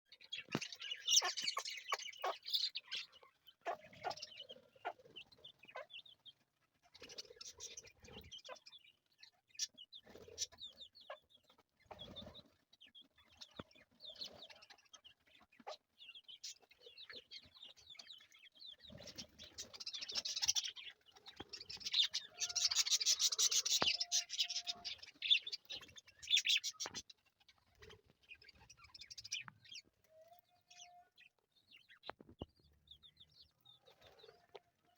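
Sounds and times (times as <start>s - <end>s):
budgerigars chirping and chattering: 0.1s - 30.0s, 30.7s - 34.6s.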